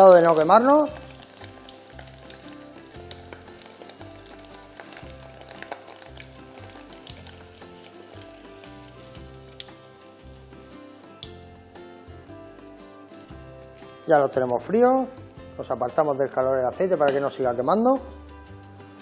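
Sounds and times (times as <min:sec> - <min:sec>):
prawns sizzling in hot oil: 0:00.0 - 0:15.8
quiet background music: 0:00.0 - 0:19.0.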